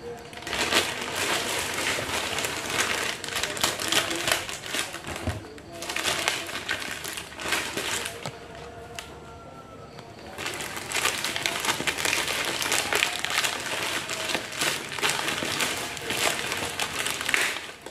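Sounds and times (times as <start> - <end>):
plastic bag crinkling: 0.0 - 17.9.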